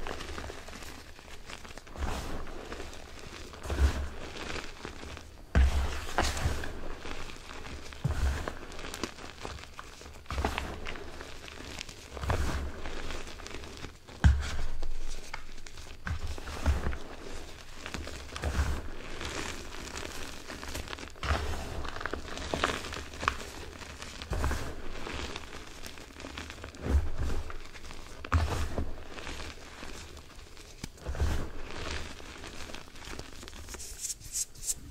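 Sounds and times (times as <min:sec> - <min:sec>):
hands scrunching powdered chalk: 0:00.0 - 0:34.9.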